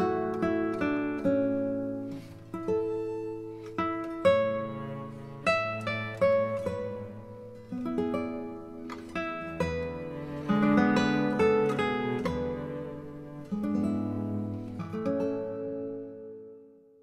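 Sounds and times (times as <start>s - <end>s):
acoustic guitar picking: 0.0s - 16.6s.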